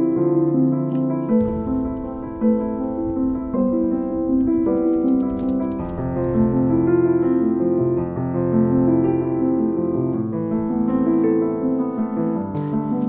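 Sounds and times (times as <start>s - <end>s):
piano piece with held notes: 0.0s - 13.0s.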